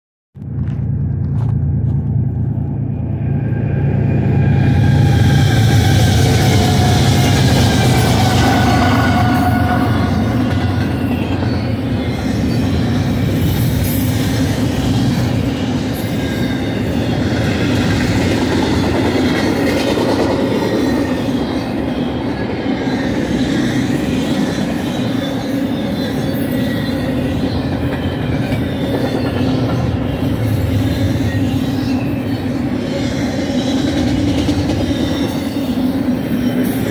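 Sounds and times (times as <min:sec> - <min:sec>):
train wheels running on rails: 0:00.4 - 0:36.9.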